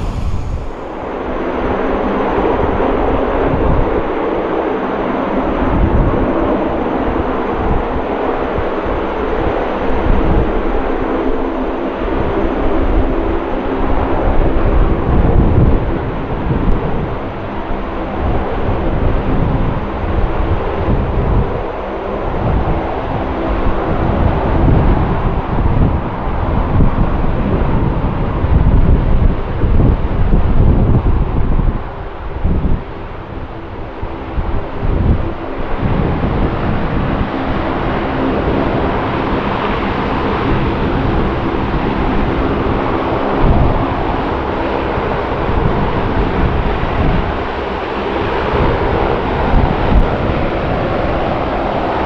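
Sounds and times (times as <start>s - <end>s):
turboprop engines droning: 0.0s - 52.0s.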